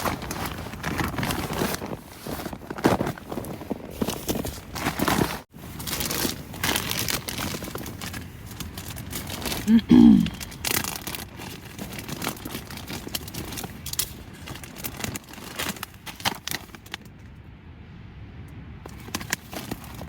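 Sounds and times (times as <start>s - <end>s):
plastic packets rustling: 0.0s - 17.3s, 18.9s - 20.0s.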